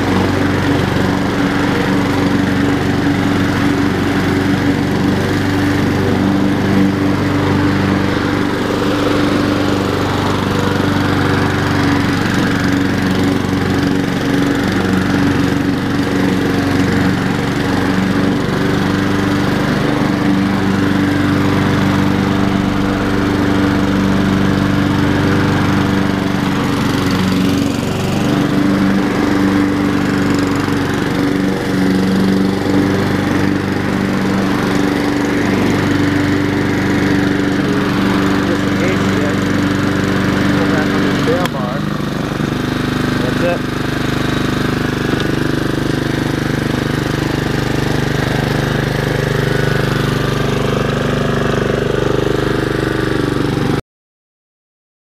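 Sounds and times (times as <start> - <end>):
lawn mower engine running: 0.0 - 53.8.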